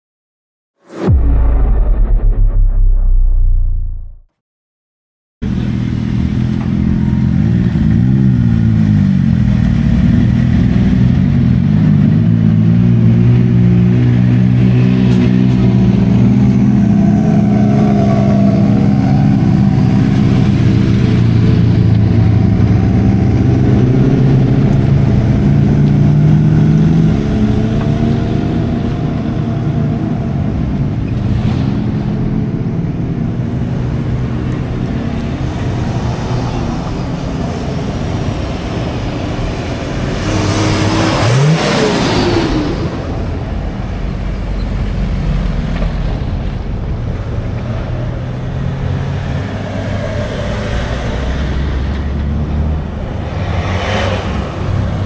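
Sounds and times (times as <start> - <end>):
off-road vehicle engine revving: 5.5 - 45.9, 48.3 - 55.0.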